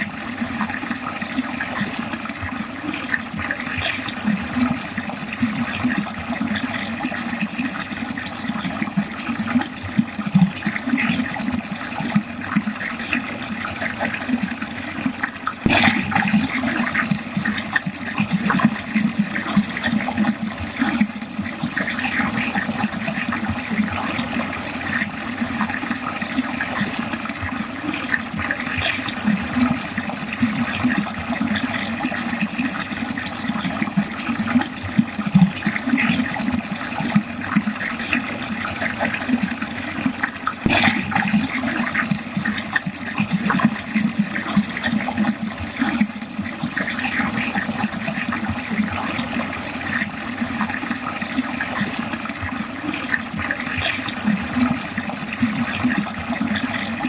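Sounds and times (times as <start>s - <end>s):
water flowing down drain: 0.0s - 57.0s.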